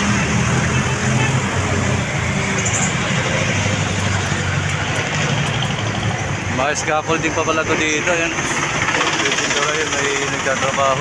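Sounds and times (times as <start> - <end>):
tyre and road rush: 0.0 - 11.0
vehicle engines humming: 0.0 - 11.0.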